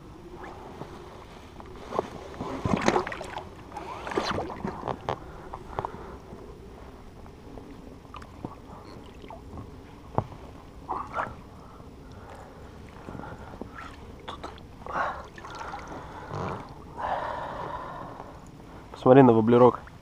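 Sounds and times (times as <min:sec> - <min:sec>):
water splashing and sloshing: 0:00.1 - 0:20.0.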